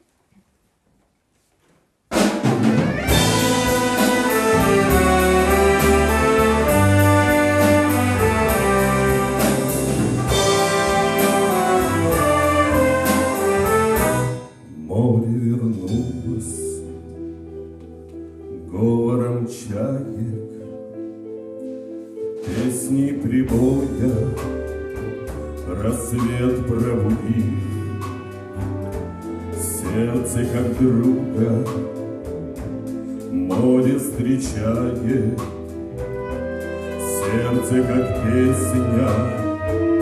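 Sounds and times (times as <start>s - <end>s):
orchestra playing: 2.2s - 40.0s.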